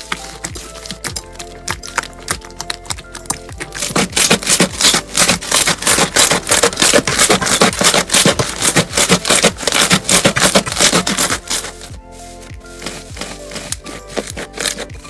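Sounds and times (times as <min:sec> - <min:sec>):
slime crackling and popping: 0:00.0 - 0:12.0, 0:12.6 - 0:15.0.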